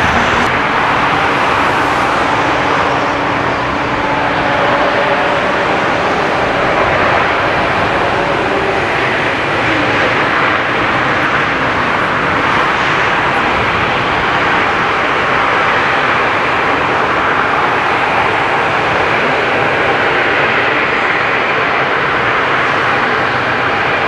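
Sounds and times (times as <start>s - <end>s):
jet engine rushing: 0.0s - 24.0s.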